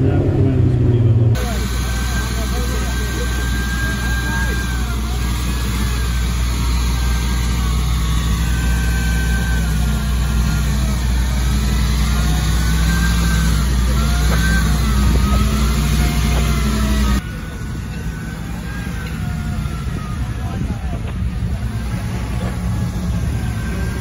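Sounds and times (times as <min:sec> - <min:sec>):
car engine running at low revs: 0:00.0 - 0:24.0.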